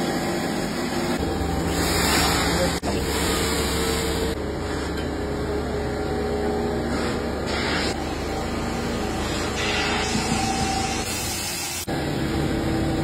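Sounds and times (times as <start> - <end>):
workshop machinery whirring: 0.0 - 13.0.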